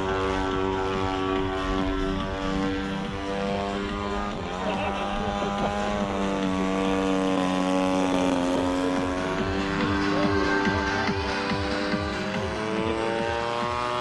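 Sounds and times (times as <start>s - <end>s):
model plane engine buzzing: 0.0s - 14.0s.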